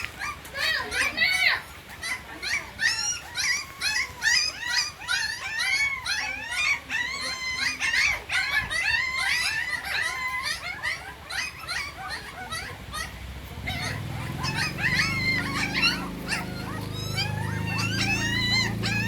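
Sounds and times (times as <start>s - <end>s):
puppies whining and squealing: 0.0s - 19.0s.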